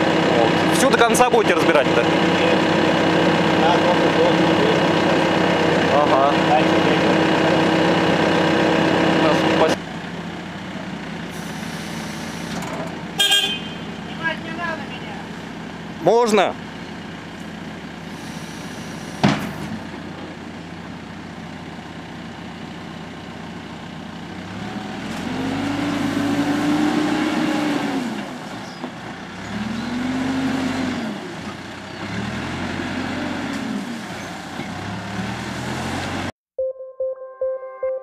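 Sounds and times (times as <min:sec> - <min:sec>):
diesel engine idling and revving: 0:00.0 - 0:36.4.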